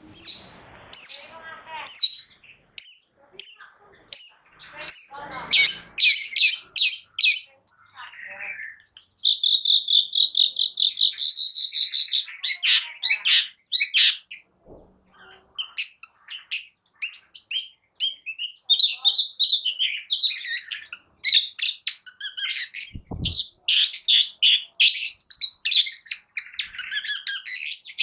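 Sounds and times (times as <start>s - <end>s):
bird singing varied song: 0.0s - 28.0s.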